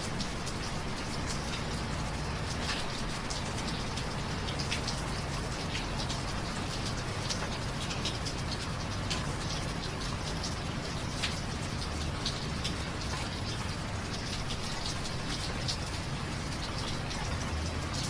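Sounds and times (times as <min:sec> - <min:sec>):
raindrops ticking on hard surfaces: 0:00.0 - 0:18.0
steady rain: 0:00.0 - 0:18.0.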